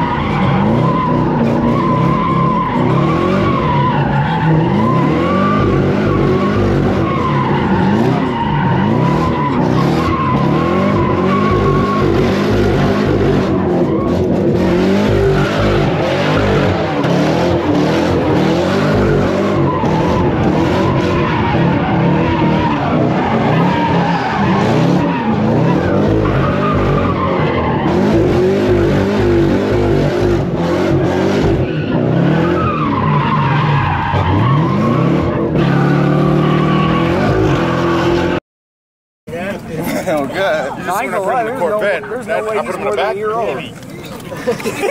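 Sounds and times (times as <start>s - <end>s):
car engines revving hard: 0.0s - 38.4s.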